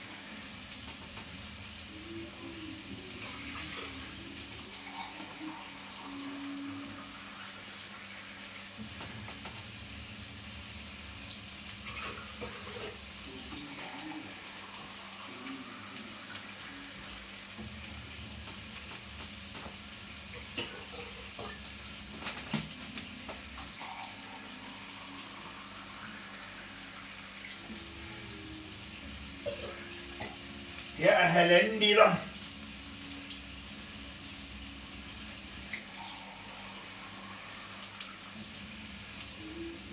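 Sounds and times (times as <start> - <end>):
food sizzling in a pot: 0.0 - 39.9
tap water running: 0.0 - 39.9.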